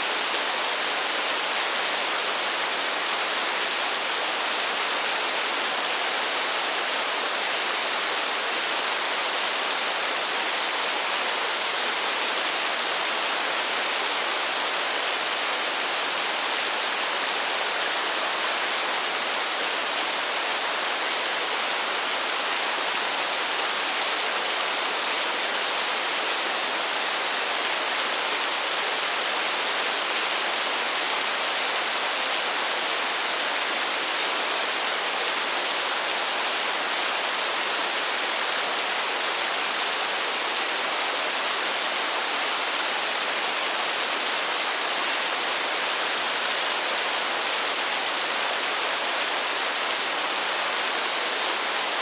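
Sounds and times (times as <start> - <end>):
steady rain: 0.0 - 52.0.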